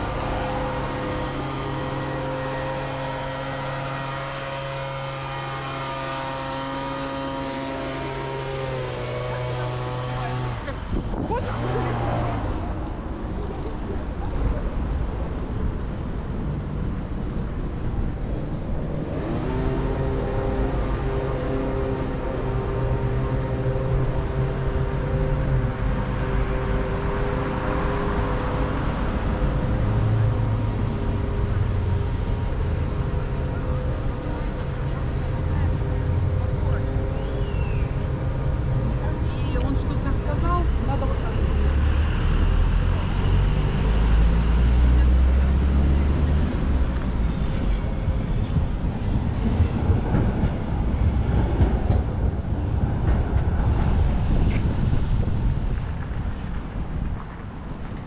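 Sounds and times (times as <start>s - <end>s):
heavy engine passing: 0.0s - 58.0s
traffic rumble: 0.0s - 58.0s.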